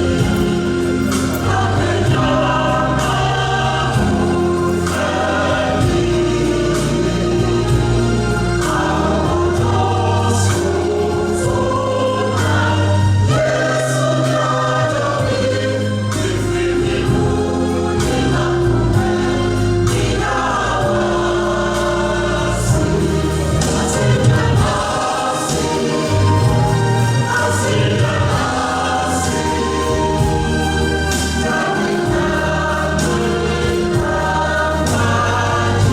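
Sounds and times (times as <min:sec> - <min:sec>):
bass accompaniment: 0:00.0 - 0:35.9
choir singing a hymn: 0:00.0 - 0:35.9.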